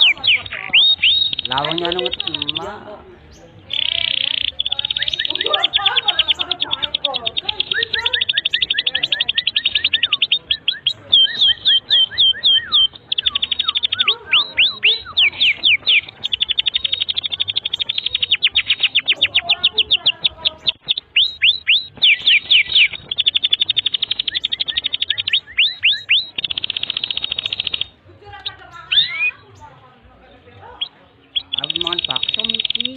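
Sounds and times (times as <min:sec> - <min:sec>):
canary singing rapid trills: 0:00.0 - 0:32.9.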